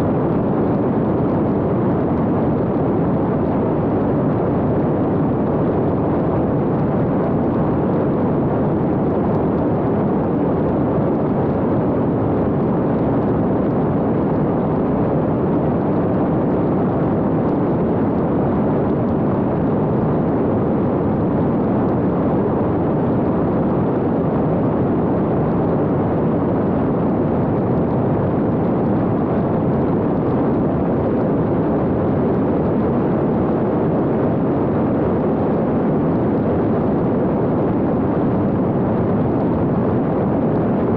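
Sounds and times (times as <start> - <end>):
airflow and propeller roar: 0.0 - 40.9.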